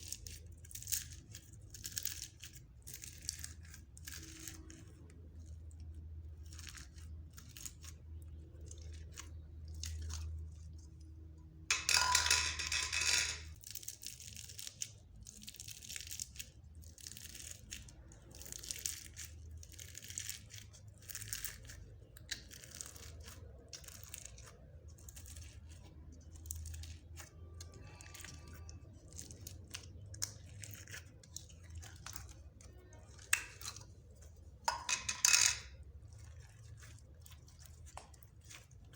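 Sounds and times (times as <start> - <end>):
slime squishing with wet crackles: 0.0 - 11.7, 13.5 - 34.7, 35.7 - 38.9.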